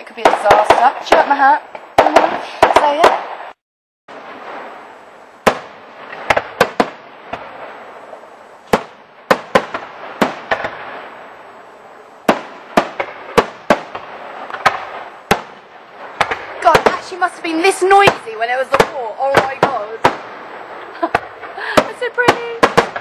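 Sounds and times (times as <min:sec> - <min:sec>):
firework bangs: 0:00.0 - 0:23.0
fireworks crackling hiss: 0:00.0 - 0:23.0.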